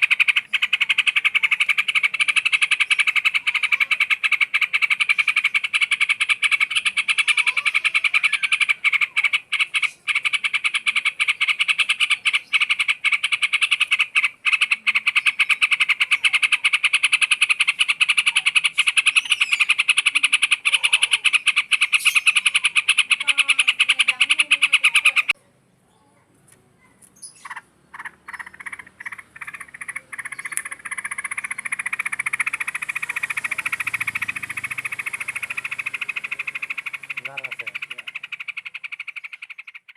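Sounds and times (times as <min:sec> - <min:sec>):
fast pulsing frog-like chirr: 0:00.0 - 0:25.4, 0:27.3 - 0:39.9.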